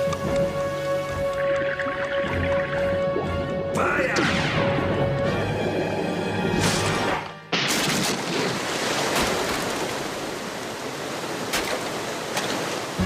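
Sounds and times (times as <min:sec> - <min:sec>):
rushing water-like noise: 0:00.0 - 0:13.0.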